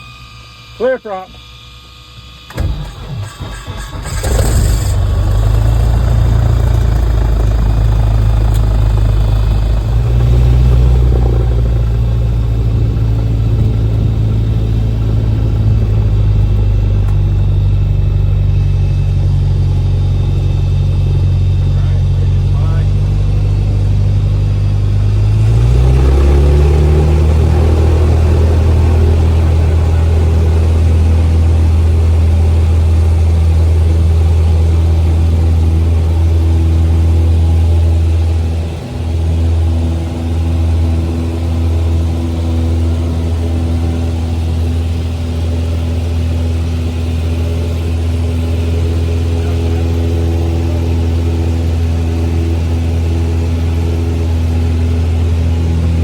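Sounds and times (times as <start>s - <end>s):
propeller aircraft engine running: 0.0s - 56.0s.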